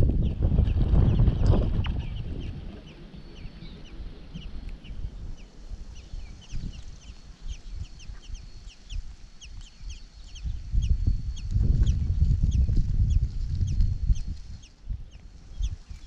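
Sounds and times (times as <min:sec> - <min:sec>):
low rumble: 0:00.0 - 0:09.1, 0:09.8 - 0:16.0
nestlings chirping: 0:00.2 - 0:16.0
faint high whine: 0:01.6 - 0:16.0.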